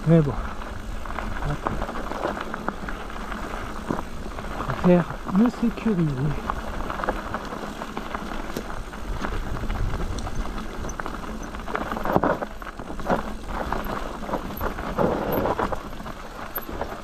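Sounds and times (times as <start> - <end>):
bike knocking and rattling: 0.0 - 17.0
tyres crunching on stones: 0.0 - 17.0.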